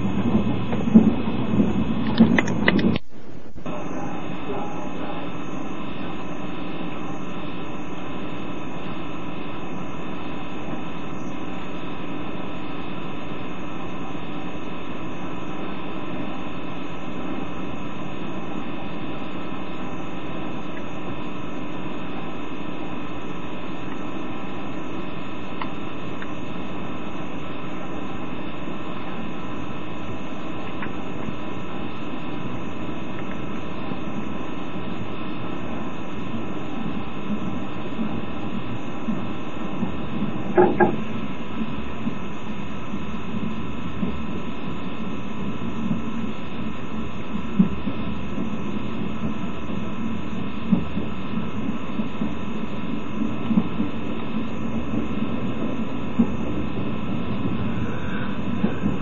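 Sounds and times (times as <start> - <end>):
train coach running hum: 0.0 - 59.0.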